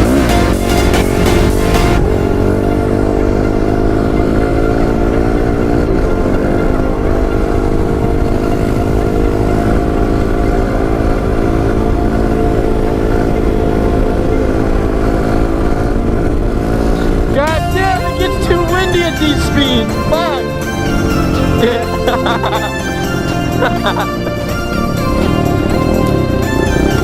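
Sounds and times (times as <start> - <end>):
pit bike engine running: 0.0 - 27.0.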